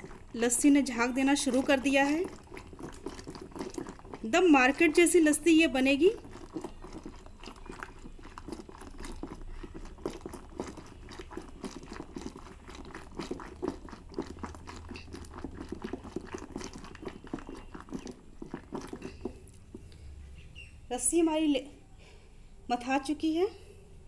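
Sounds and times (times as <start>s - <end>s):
hand churn clicking in yogurt: 0.0s - 20.0s.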